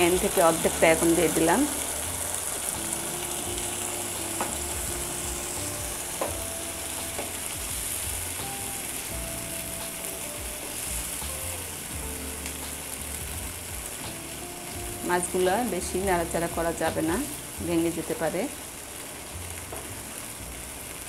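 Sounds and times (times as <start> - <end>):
curry sizzling in a frying pan: 0.0 - 21.0.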